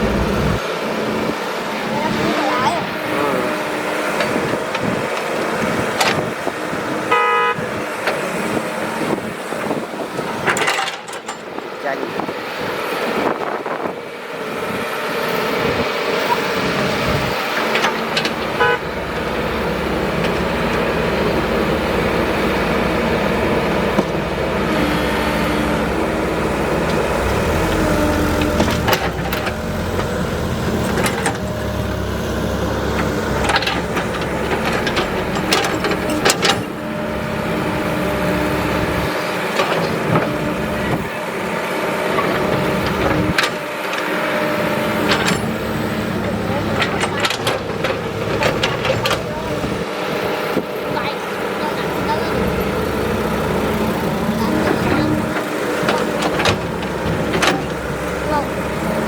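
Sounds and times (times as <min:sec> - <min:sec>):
excavator engine rumbling: 0:00.0 - 0:59.0.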